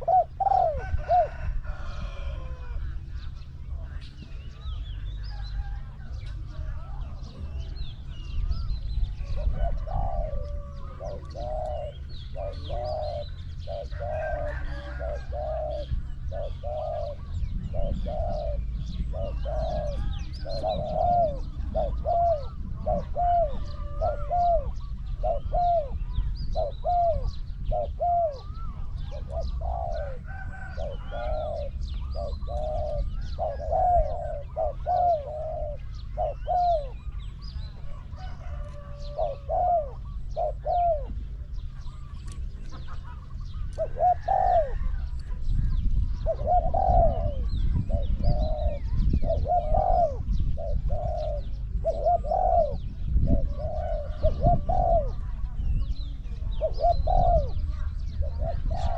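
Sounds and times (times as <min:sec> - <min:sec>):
doves cooing: 0:00.0 - 0:58.9
small birds chirping: 0:00.0 - 0:58.9
steady low rumble: 0:00.0 - 0:58.9.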